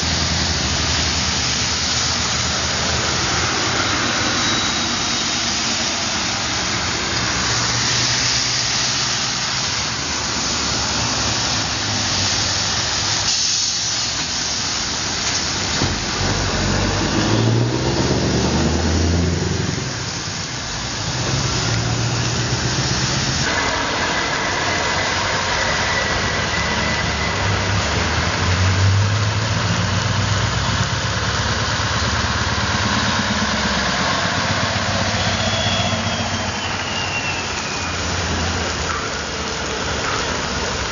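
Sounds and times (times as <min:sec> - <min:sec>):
heavy trucks driving past: 0:00.0 - 0:40.9
tyres hissing on wet road: 0:00.0 - 0:40.9.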